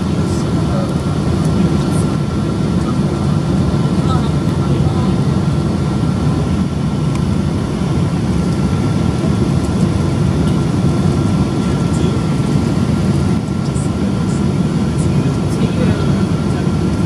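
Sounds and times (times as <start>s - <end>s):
jet engine and airflow rumble: 0.0s - 17.0s
thin steady whine: 0.0s - 17.0s.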